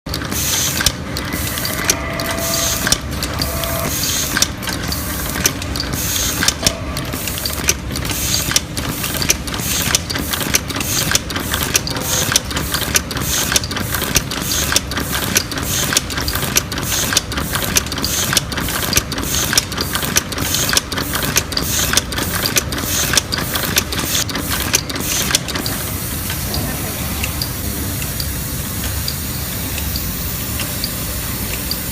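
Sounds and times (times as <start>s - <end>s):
chain-making machine clattering hum: 0.1s - 31.9s
sharp mechanical clicks: 0.1s - 31.9s.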